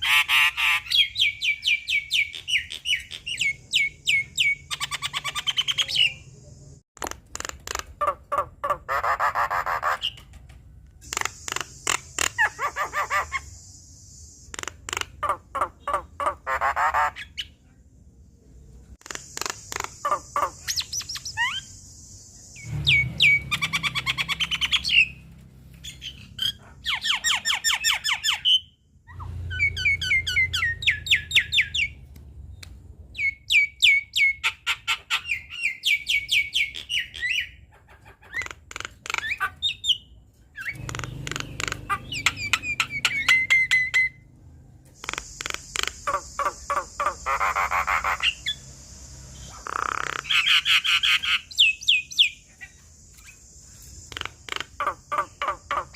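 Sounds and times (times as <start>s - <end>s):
bird chattering and squawking: 0.0s - 6.3s, 7.0s - 10.4s, 11.0s - 13.6s, 14.4s - 17.6s, 19.0s - 21.8s, 22.6s - 25.2s, 25.8s - 32.0s, 33.2s - 44.2s, 45.0s - 48.8s, 49.4s - 55.9s.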